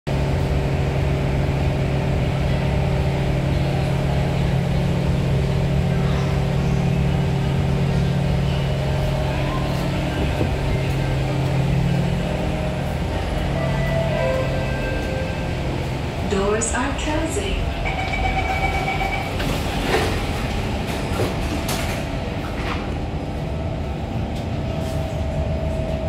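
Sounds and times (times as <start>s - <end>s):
train air-conditioning hum: 0.1s - 26.0s.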